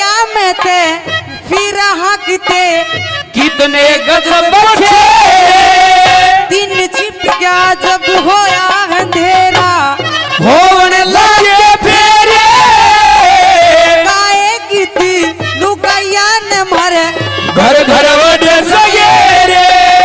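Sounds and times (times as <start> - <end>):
boy singing through a pa: 0.0 - 20.0
musical accompaniment: 0.0 - 20.0.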